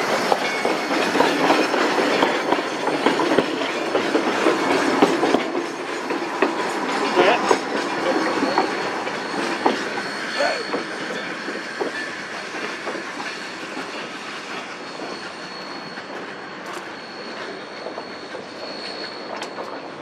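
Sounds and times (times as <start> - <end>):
high steady squeal: 0.0 - 20.0
train wheels clicking on rail joints: 0.0 - 20.0.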